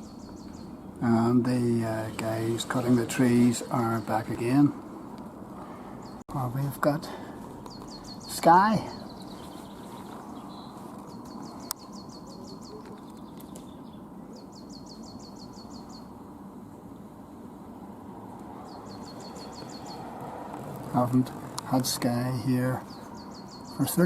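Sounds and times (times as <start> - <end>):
low outdoor background noise: 0.0 - 24.0
songbird singing: 0.0 - 24.0.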